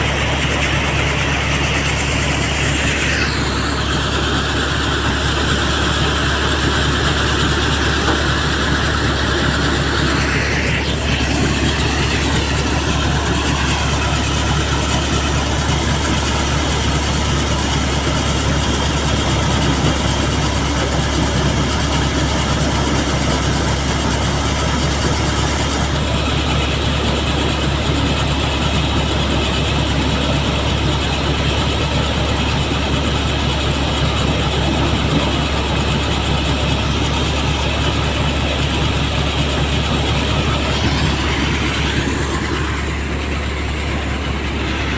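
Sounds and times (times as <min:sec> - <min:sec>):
tractor diesel engine droning: 0:00.0 - 0:44.9.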